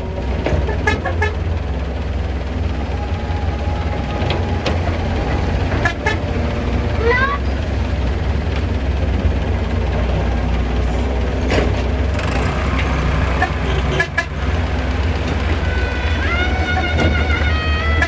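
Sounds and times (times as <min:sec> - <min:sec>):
diesel machinery rumbling: 0:00.0 - 0:18.0.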